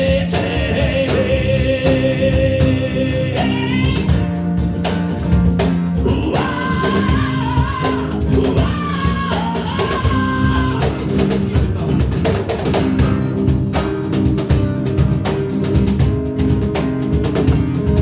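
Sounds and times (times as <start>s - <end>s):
drum kit beat: 0.0s - 18.0s
rock guitars: 0.0s - 18.0s.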